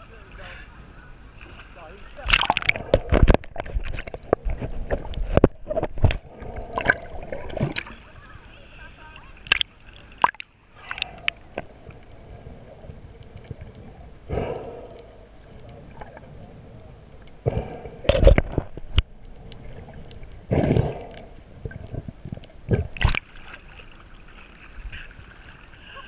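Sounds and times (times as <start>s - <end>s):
muffled water gurgling and sloshing: 0.0s - 26.0s
faint crackle of clicks underwater: 2.2s - 8.0s, 9.3s - 25.1s.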